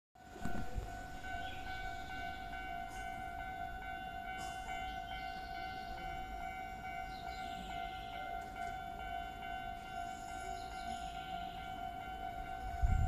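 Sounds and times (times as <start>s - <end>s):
railway warning signal ringing: 0.2s - 13.0s.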